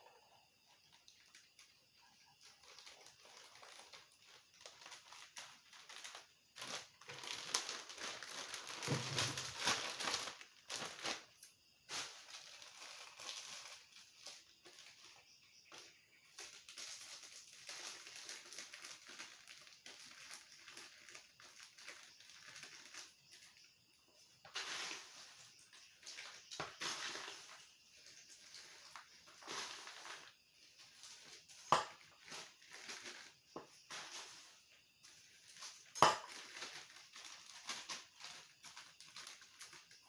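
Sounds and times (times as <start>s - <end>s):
chips rustling and crinkling: 2.4s - 15.2s, 16.3s - 23.6s, 24.5s - 40.0s.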